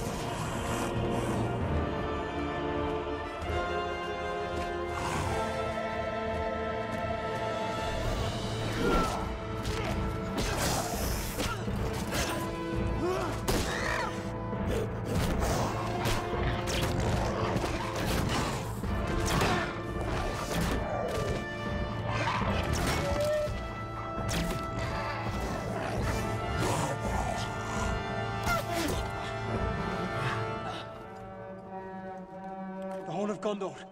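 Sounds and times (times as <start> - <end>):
orchestral strings and brass: 0.0 - 33.9.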